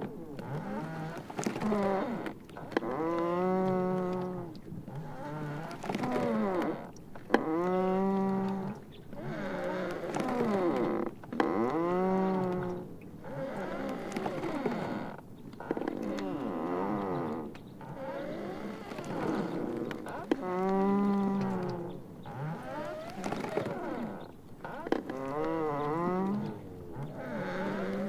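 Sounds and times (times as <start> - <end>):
sea ice squealing and groaning: 0.0 - 28.0.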